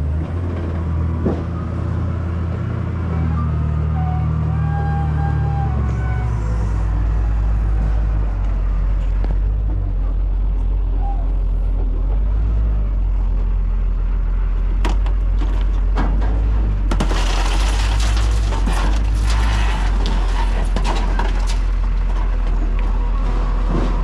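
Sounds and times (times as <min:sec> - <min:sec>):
heavy engine rumbling: 0:00.0 - 0:24.0.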